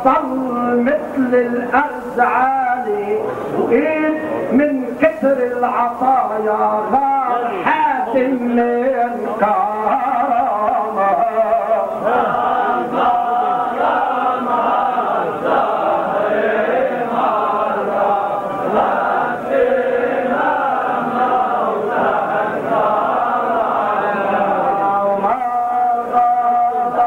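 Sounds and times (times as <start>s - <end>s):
men chanting together: 5.0s - 27.0s.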